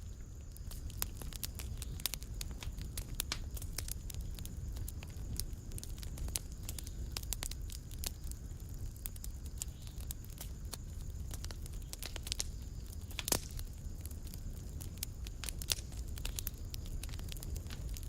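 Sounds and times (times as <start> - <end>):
fire crackling: 0.0 - 18.0
low rumble of fire: 0.0 - 18.0.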